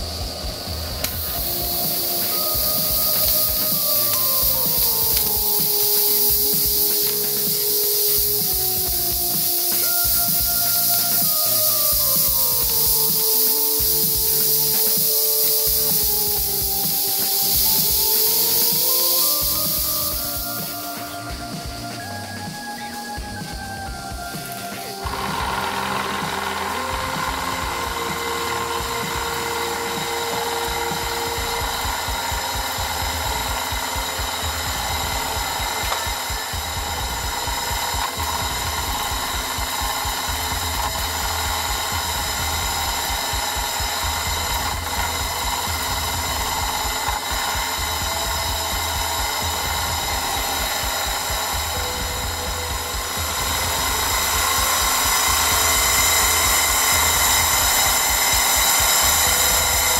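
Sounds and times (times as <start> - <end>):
model steam engine running: 0.0 - 59.9.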